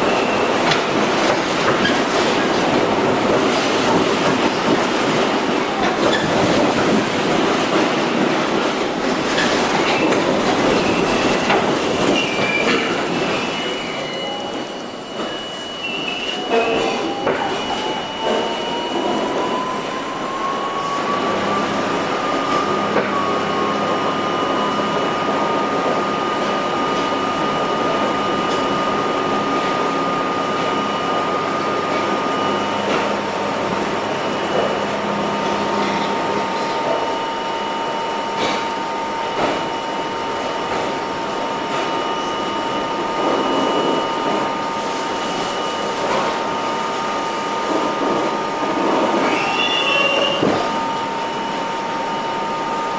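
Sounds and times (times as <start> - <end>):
subway car running noise: 0.0 - 52.9.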